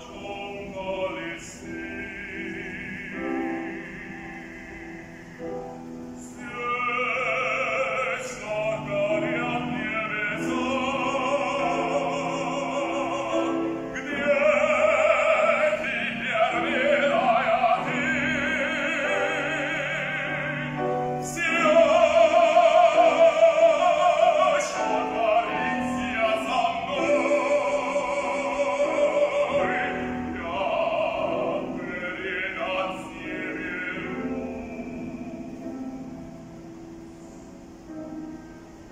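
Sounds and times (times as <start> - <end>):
man singing operatically: 0.0 - 36.3
grand piano: 0.0 - 38.9.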